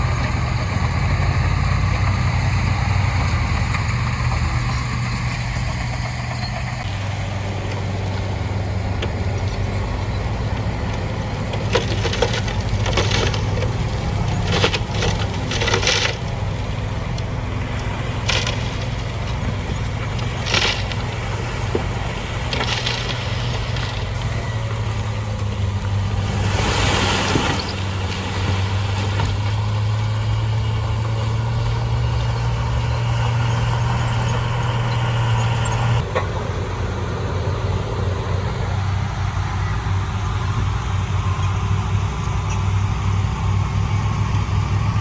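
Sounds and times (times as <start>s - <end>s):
rock and gravel crunching: 0.0s - 36.3s
diesel earthmoving machine droning: 0.0s - 45.0s.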